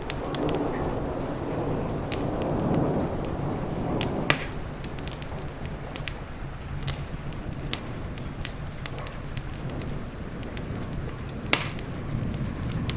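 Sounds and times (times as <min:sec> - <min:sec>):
thunder rumbling: 0:00.0 - 0:12.9
wood fire crackling and popping: 0:00.0 - 0:12.9.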